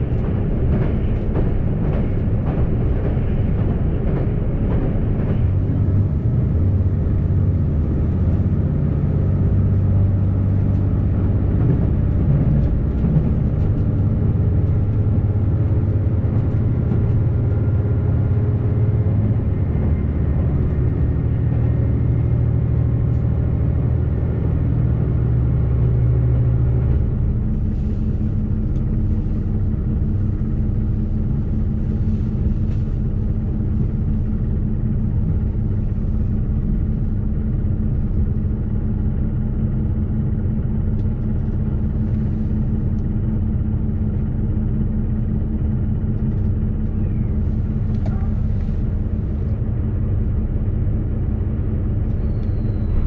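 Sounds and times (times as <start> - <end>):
diesel railcar rumbling: 0.0 - 53.0
steady train hum: 0.0 - 53.0.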